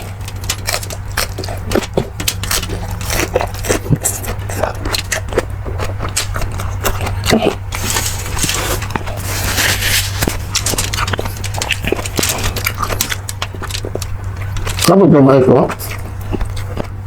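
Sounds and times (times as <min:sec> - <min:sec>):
steady low hum: 0:00.0 - 0:17.0
wet chewing and smacking: 0:00.0 - 0:17.0.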